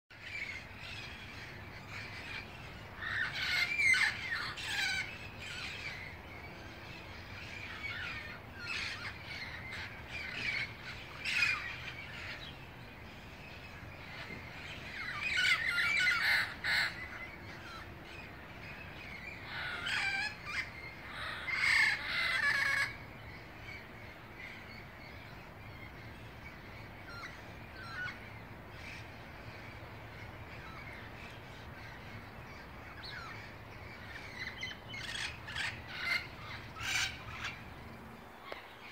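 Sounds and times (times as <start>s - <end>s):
parrots calling: 0.2s - 38.6s.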